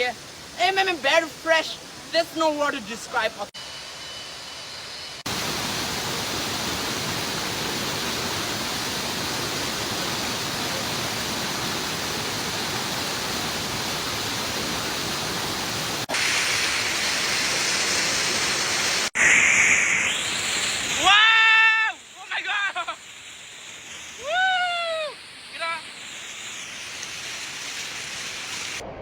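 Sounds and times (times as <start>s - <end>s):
waterfall rushing: 5.3s - 28.8s.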